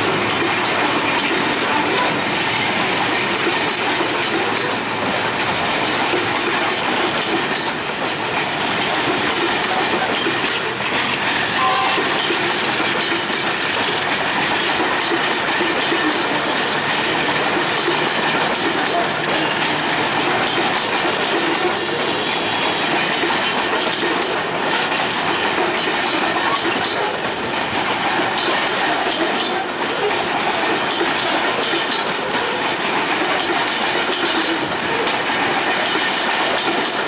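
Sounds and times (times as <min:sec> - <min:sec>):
train wheels clattering over rail joints: 0:00.0 - 0:37.0.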